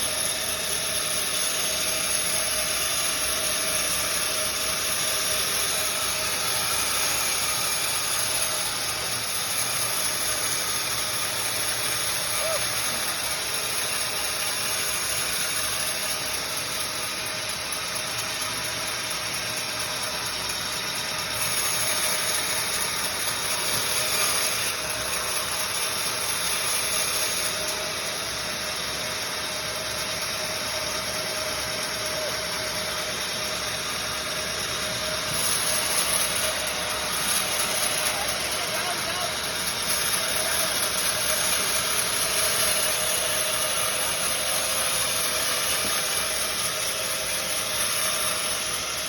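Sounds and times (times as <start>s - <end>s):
sawmill machinery whining: 0.0s - 49.0s.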